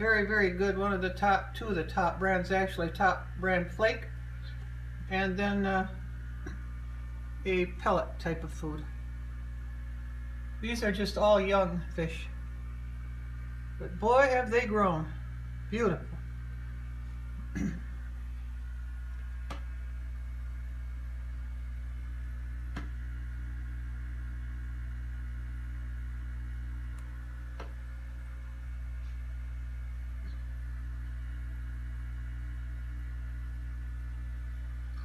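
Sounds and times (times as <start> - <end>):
aquarium equipment humming: 0.0 - 35.0.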